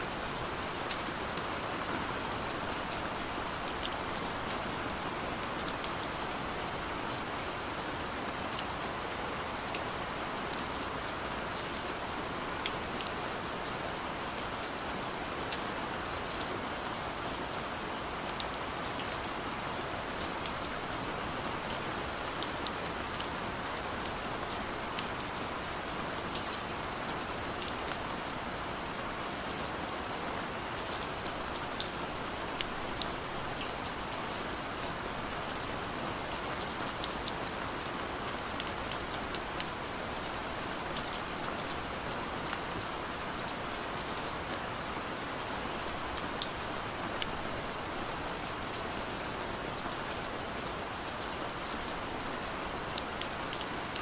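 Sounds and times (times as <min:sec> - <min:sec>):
steady rain hiss: 0:00.0 - 0:54.0
raindrops ticking on a surface: 0:00.1 - 0:54.0.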